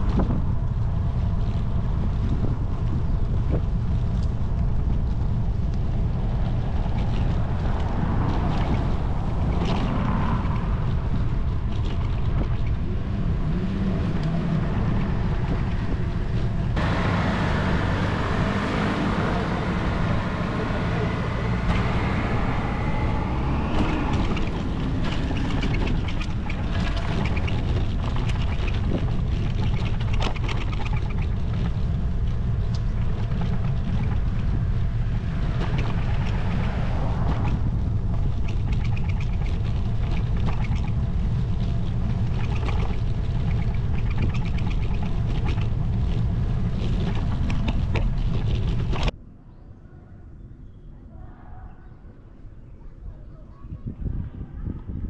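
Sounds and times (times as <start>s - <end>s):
bus engine and road noise: 0.0s - 49.4s, 52.0s - 55.0s
wind buffeting microphone: 0.0s - 55.0s.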